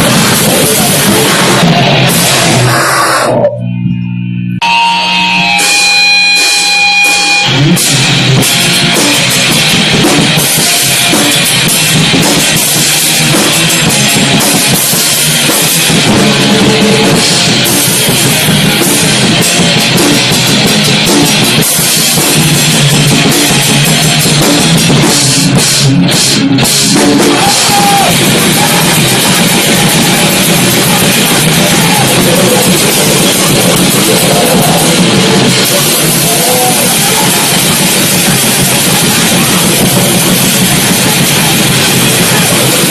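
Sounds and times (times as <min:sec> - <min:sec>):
rock band playing: 0:00.0 - 0:03.4, 0:04.6 - 0:42.9.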